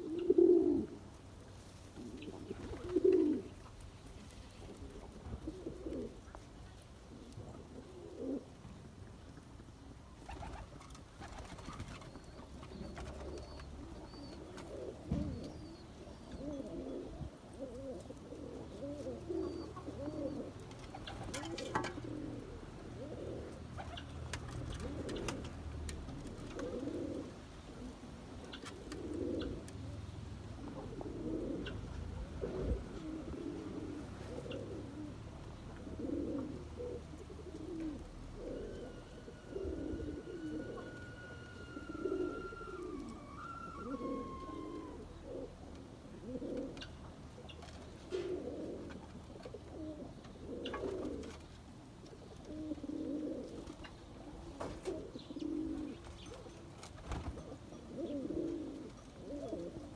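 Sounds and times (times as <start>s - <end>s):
pigeons cooing: 0.0s - 8.8s, 9.8s - 59.9s.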